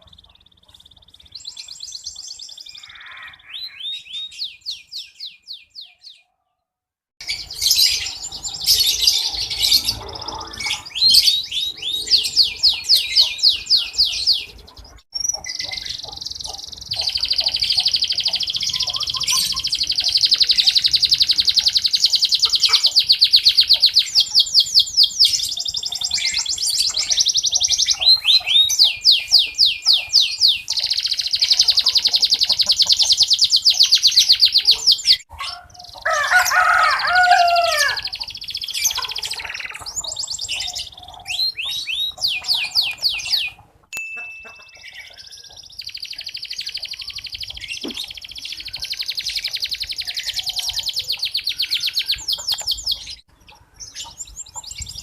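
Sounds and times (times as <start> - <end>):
canary singing trills: 0.0 - 6.6, 7.2 - 55.0.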